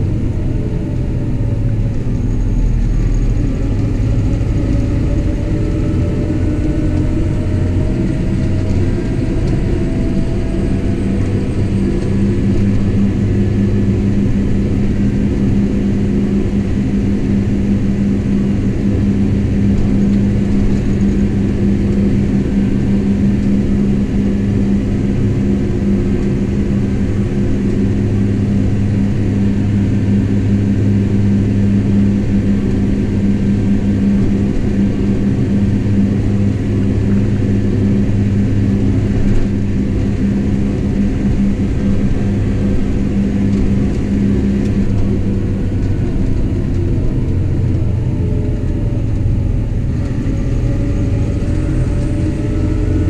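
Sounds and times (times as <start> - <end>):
tractor diesel engine drone: 0.0 - 53.0.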